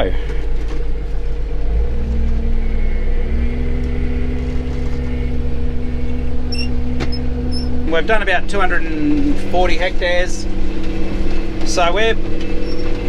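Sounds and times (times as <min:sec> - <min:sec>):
engine heard from inside cab: 0:00.0 - 0:13.0.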